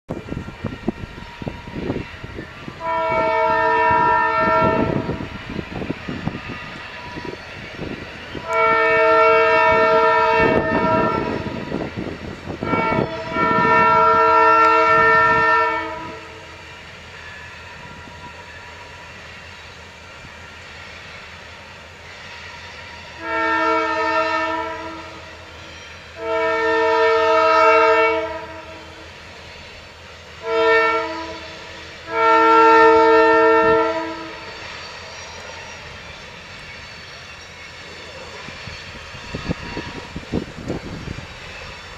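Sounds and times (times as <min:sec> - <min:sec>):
train whistle blasts: 0:00.1 - 0:21.3, 0:22.1 - 0:41.9
moving train rumbling: 0:00.1 - 0:41.9.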